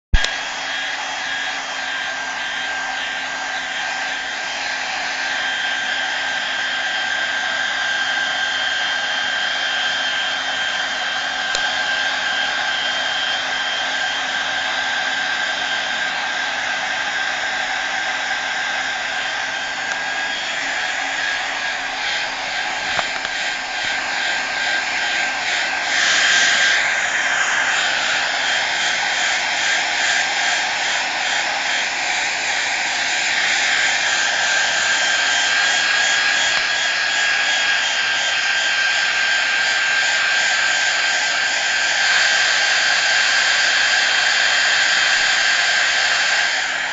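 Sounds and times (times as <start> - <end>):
hair dryer blowing: 0.0 - 46.9.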